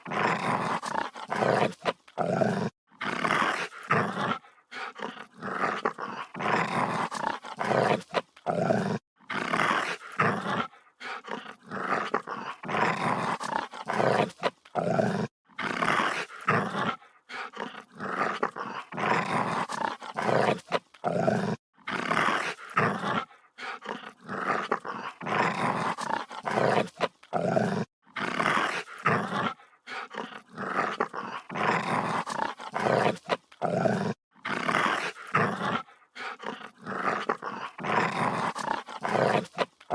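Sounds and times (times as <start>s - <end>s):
dog growling and snarling: 0.0s - 39.9s
dog breathing: 3.4s - 8.7s, 9.8s - 21.2s, 21.9s - 27.4s, 28.3s - 39.9s.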